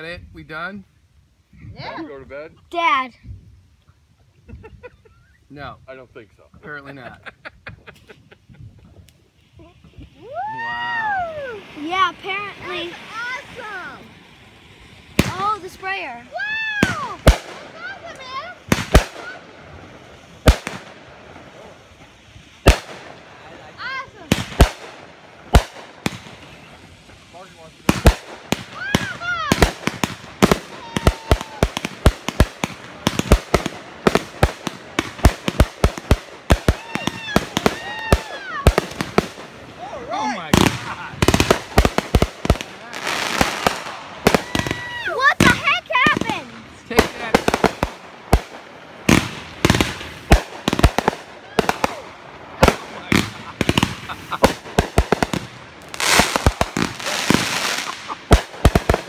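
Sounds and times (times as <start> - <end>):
fireworks hissing and crackling: 0.0 - 59.0
fireworks bangs: 6.7 - 59.0.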